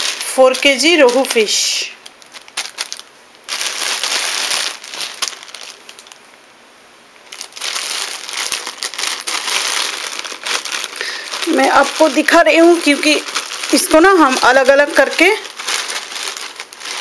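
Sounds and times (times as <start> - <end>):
plastic bag crinkling: 0.0 - 6.2, 7.2 - 17.0.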